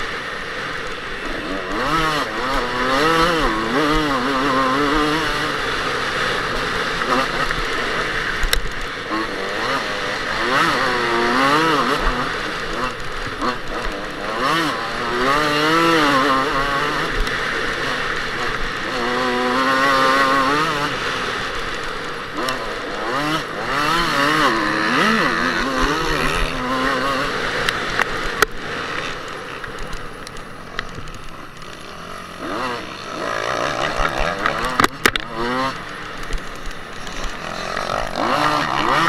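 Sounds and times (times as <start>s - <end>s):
motocross engine revving: 0.0s - 39.0s.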